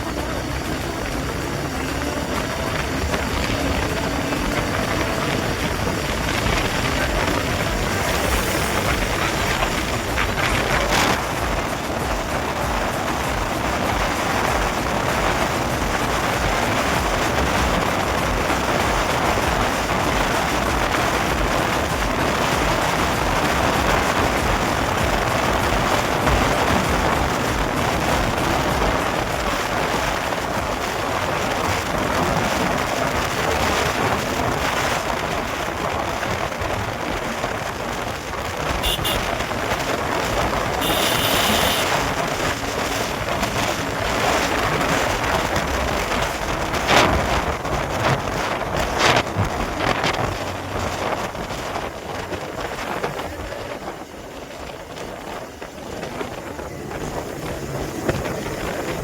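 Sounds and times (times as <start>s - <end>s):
motorcycle riding: 0.0s - 59.0s
wind noise on microphone: 0.0s - 59.0s.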